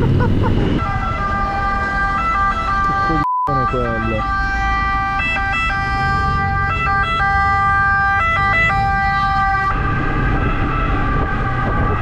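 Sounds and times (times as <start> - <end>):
road noise: 0.0 - 12.0
electronic siren: 0.6 - 12.0.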